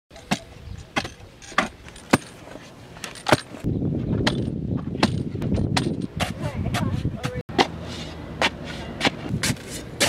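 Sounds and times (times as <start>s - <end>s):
shovels striking dry dirt: 0.1s - 10.0s.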